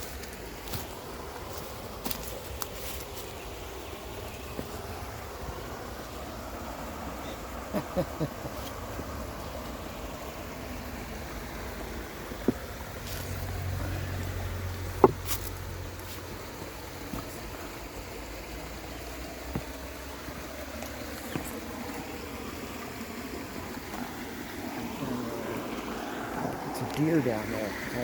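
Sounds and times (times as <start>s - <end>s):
water running over waterfall: 0.0s - 28.0s.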